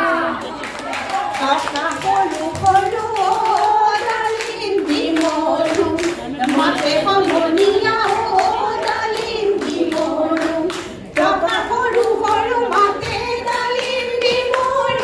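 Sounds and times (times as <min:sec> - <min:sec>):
rhythmic hand clapping: 0:00.4 - 0:15.0
women singing folk song: 0:01.4 - 0:15.0.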